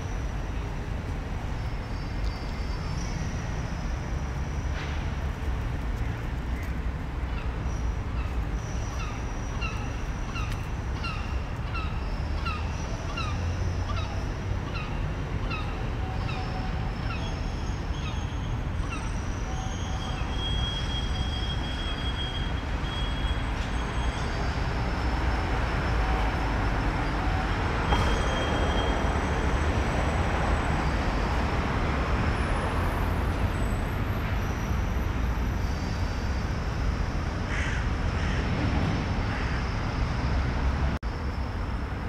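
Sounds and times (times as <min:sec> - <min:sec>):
city traffic rumble: 0:00.0 - 0:42.0.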